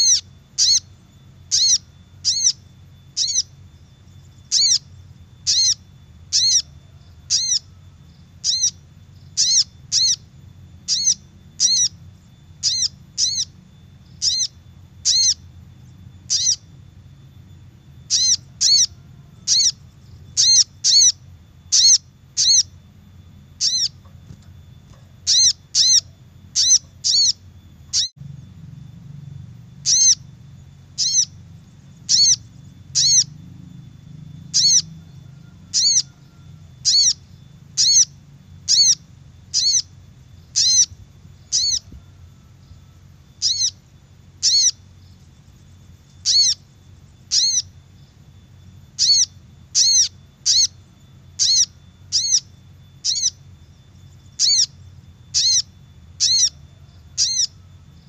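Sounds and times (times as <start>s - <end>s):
high bird lure chirps: 0.0s - 22.9s, 23.5s - 28.1s, 29.8s - 35.0s, 35.7s - 57.7s
faint low hum: 0.0s - 58.0s.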